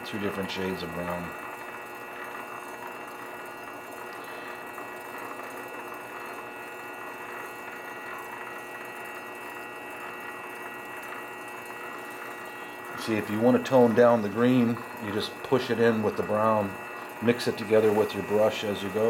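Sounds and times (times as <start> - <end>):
lathe whine: 0.0 - 19.0.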